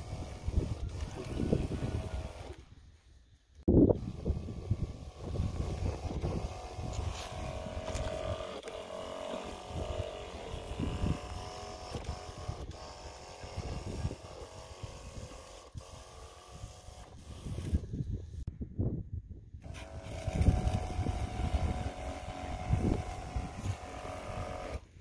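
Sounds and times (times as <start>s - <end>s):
wind buffeting microphone: 0.0s - 2.5s, 3.7s - 24.8s
electric pump whining: 0.0s - 2.8s, 3.9s - 18.3s, 19.6s - 25.0s.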